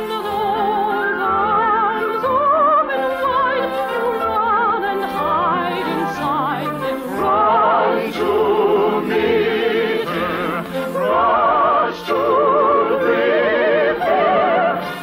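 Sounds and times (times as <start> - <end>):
operatic singing: 0.0 - 15.0
orchestral music: 0.0 - 15.0.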